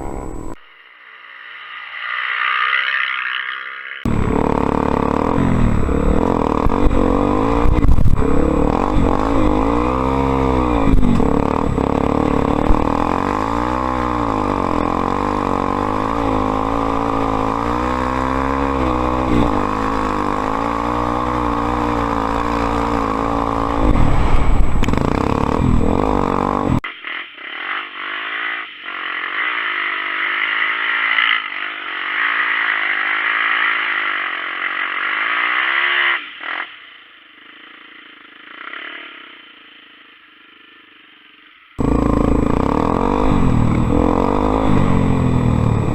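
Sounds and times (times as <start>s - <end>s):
motorcycle engine revving: 0.0s - 0.6s, 2.0s - 36.7s, 41.8s - 45.9s.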